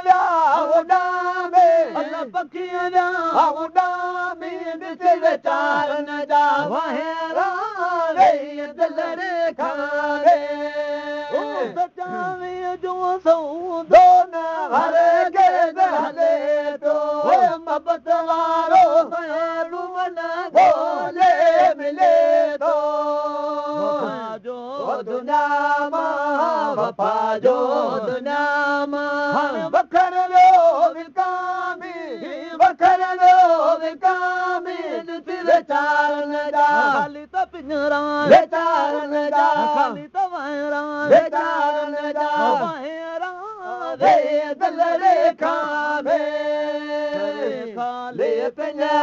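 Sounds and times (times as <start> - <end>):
person singing devotional song: 0.0 - 49.0.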